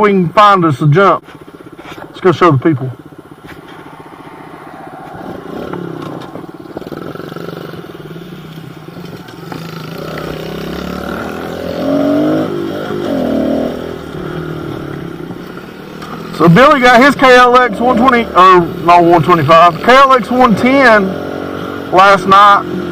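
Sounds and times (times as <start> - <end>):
pit bike engine running: 1.3 - 22.9.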